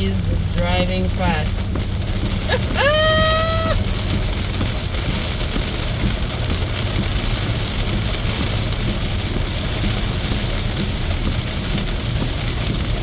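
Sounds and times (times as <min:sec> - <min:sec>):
heavy rain drumming on car: 0:00.0 - 0:13.0
tyre and road rumble: 0:00.0 - 0:13.0.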